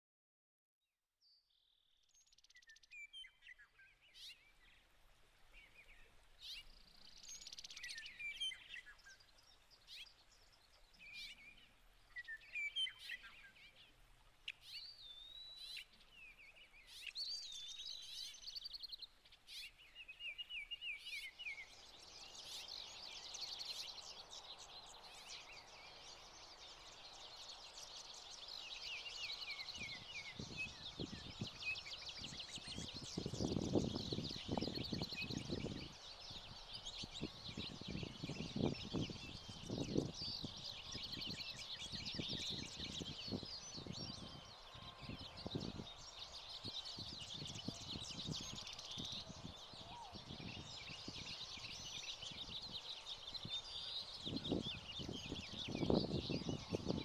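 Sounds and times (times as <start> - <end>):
songbirds chirping and singing: 5.6 - 57.0.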